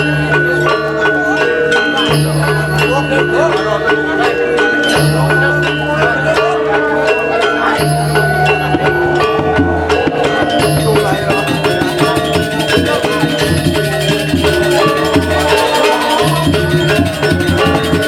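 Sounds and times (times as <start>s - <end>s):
metallophones playing fast melody: 0.0s - 18.0s.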